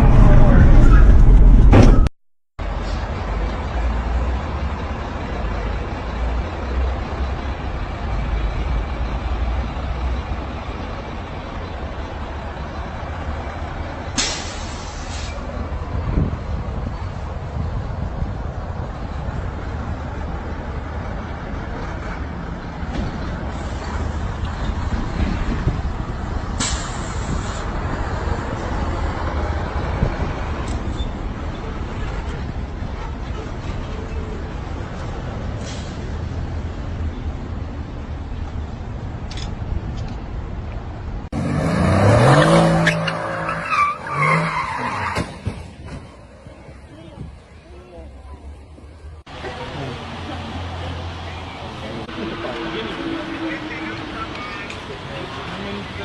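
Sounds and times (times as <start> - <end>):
vehicle road and engine rumble: 0.0 - 56.0.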